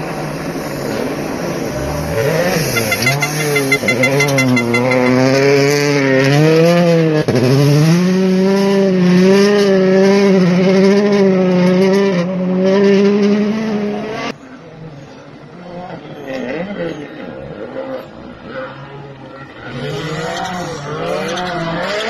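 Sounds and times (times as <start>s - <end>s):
rally car engines revving: 0.0s - 22.0s.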